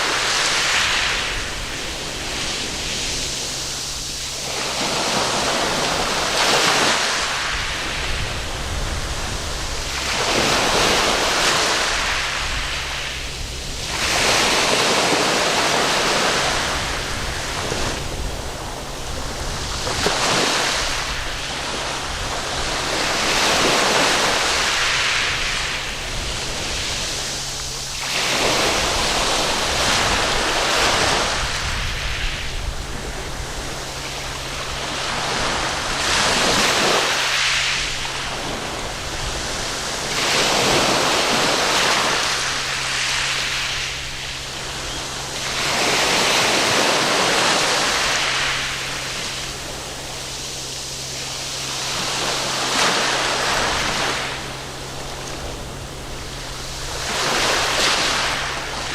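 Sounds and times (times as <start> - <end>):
surf breaking on a beach: 0.0 - 58.9.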